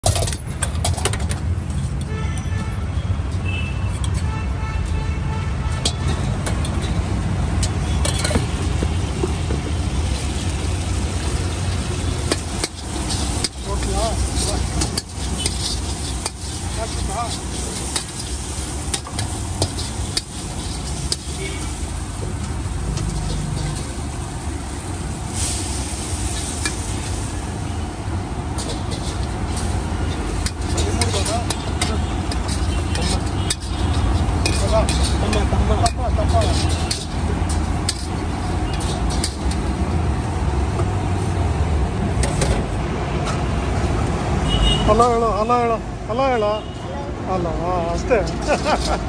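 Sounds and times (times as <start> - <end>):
traffic rumble: 0.0 - 49.0.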